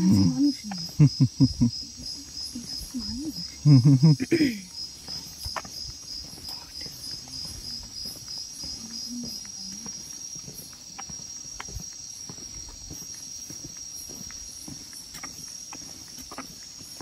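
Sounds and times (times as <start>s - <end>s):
footsteps on pavement: 0.0s - 17.0s
night insects chirping: 0.0s - 17.0s.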